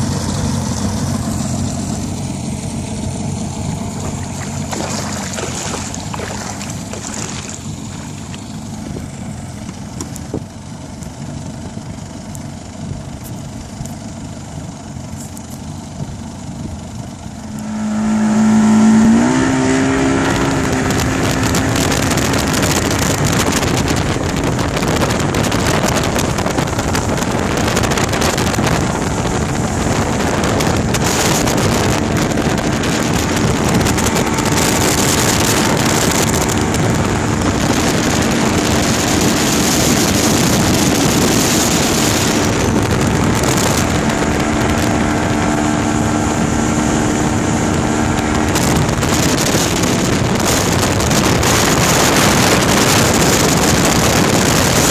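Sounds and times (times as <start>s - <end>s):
outboard motor droning: 0.0s - 54.9s
wind buffeting microphone: 3.5s - 10.8s, 16.0s - 54.9s.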